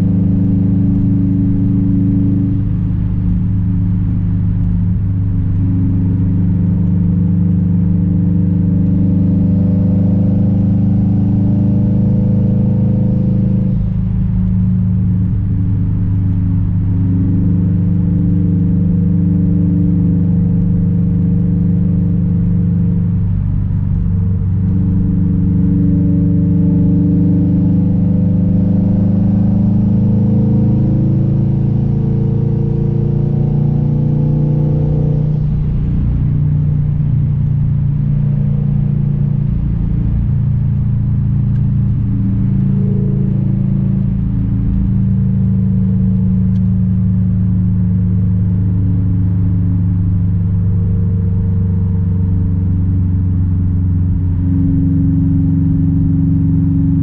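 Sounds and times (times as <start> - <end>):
car engine exhaust driving: 0.0 - 57.0.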